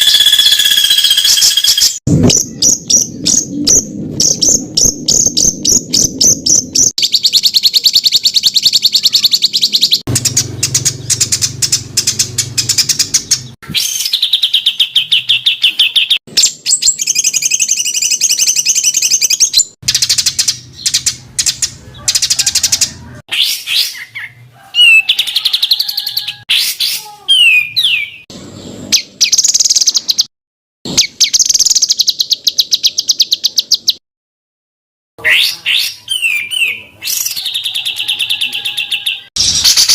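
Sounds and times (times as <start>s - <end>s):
rising and falling bird whistles: 0.0s - 28.3s, 35.3s - 39.9s
songbirds singing rapid notes: 0.0s - 30.3s, 30.9s - 34.0s, 35.2s - 39.9s.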